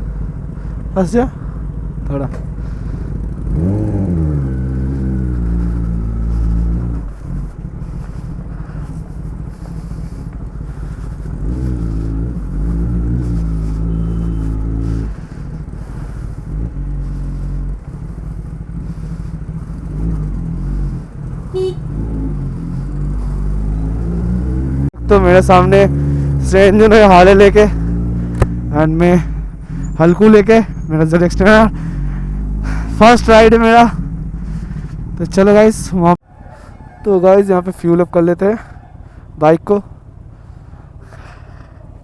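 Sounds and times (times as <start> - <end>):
motorcycle engine revving: 1.4 - 36.2.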